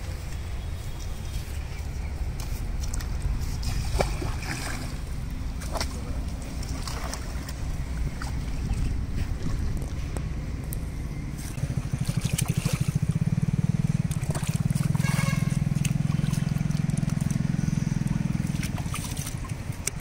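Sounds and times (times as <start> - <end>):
water splashing and sloshing: 0.0 - 20.0
wind rumbling on microphone: 0.0 - 20.0.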